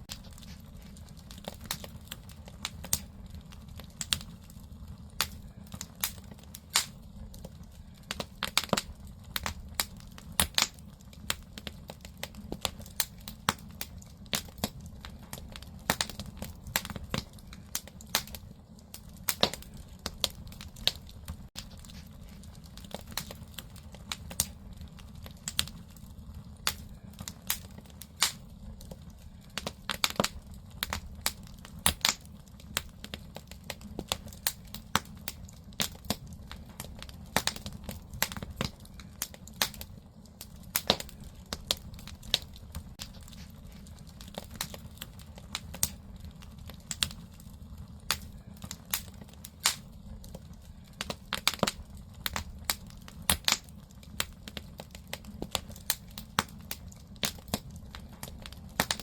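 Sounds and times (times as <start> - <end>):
burning logs crackling and popping: 0.0 - 59.0
low rumble of fire: 0.0 - 59.0.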